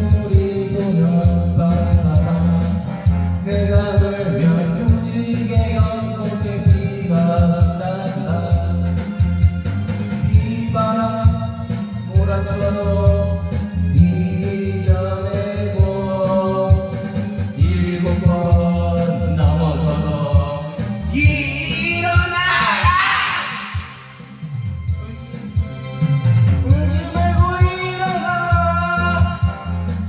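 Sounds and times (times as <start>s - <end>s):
person singing: 0.0s - 8.9s, 10.2s - 17.0s, 17.6s - 24.2s, 26.7s - 29.8s
rock ballad with bass and drums: 0.0s - 30.0s.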